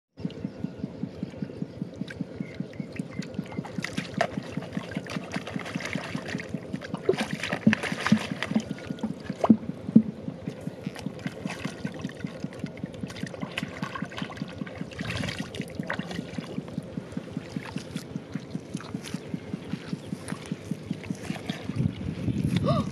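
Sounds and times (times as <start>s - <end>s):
steady fast throbbing: 0.2s - 22.2s
muddy water splashing: 2.0s - 22.9s.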